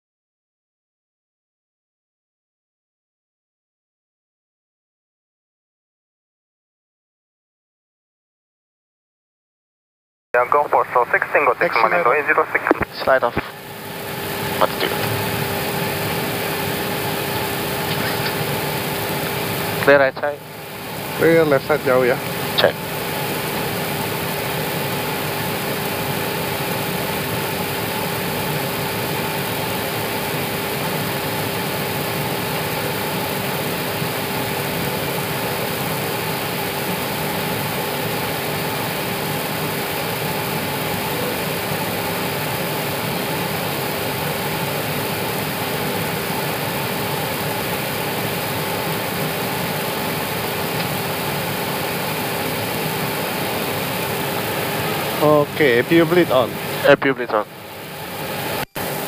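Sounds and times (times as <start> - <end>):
jet engines idling: 10.4 - 59.0.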